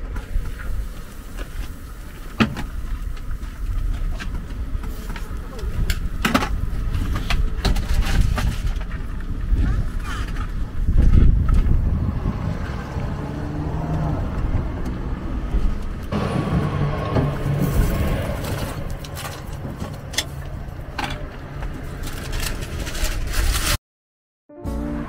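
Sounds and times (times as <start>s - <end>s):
low engine rumble: 0.0s - 23.4s.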